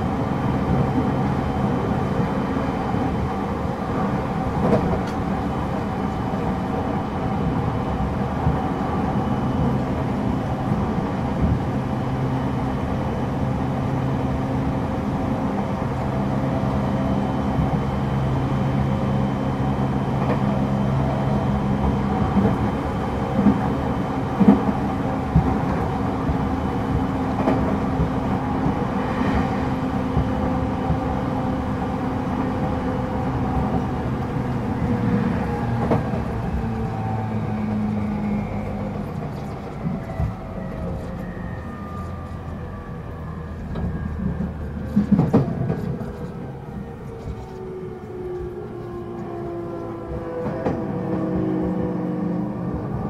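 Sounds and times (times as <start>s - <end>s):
train wheel and rail noise: 0.0s - 53.0s.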